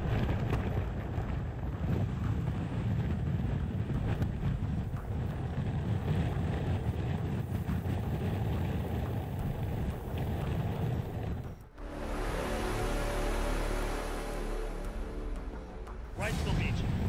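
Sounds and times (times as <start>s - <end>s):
howling wind buffeting microphone: 0.0s - 16.1s.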